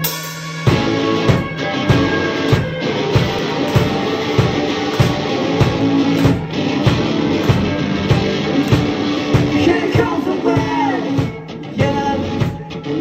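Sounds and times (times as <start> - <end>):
bass guitar: 0.0 - 13.0
drum kit beat: 0.0 - 13.0
electric guitars: 0.0 - 13.0.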